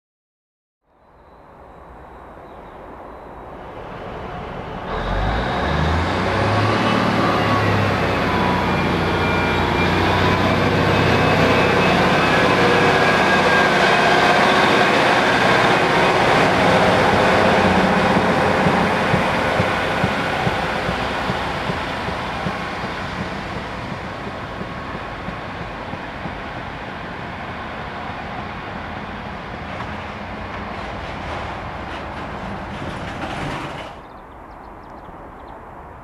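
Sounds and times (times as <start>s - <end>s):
diesel train engine: 2.9s - 34.5s
train wheels on rails: 3.6s - 34.3s.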